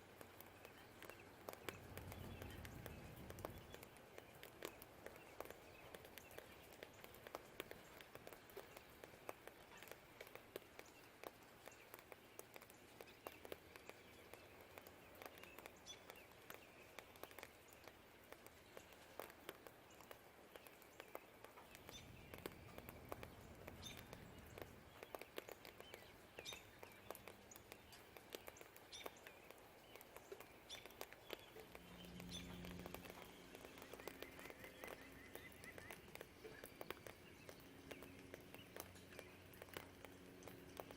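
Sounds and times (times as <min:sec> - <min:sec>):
faint rain pattering and dripping: 0:00.0 - 0:40.9
birds chirping: 0:00.1 - 0:40.9.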